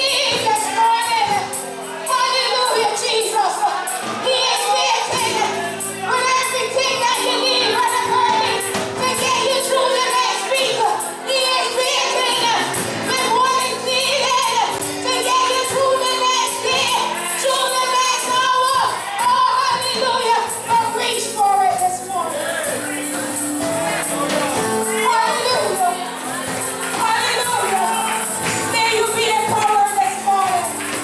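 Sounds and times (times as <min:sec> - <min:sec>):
woman singing gospel: 0:00.0 - 0:22.3, 0:23.1 - 0:31.0.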